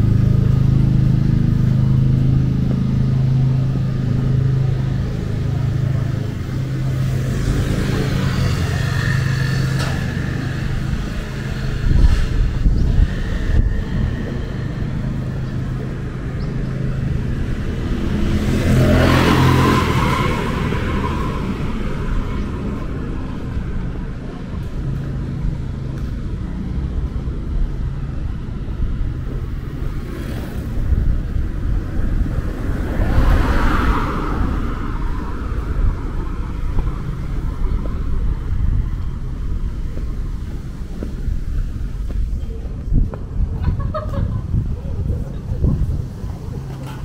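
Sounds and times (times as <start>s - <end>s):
traffic engine rumble: 0.0s - 47.0s
vehicle passing: 0.0s - 47.0s.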